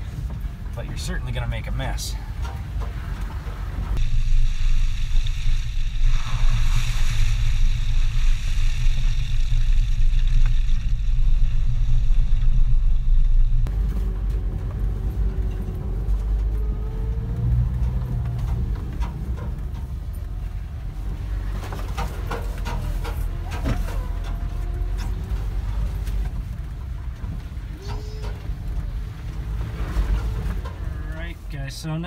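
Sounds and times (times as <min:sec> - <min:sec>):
small truck engine rumbling: 0:00.0 - 0:32.0
tyres rumbling through mud: 0:00.0 - 0:32.0.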